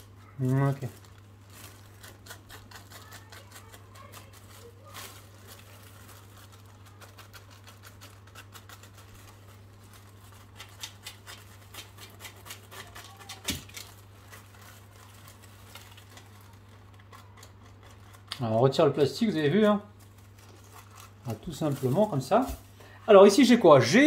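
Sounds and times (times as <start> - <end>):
plastic film crinkling: 0.0 - 23.6.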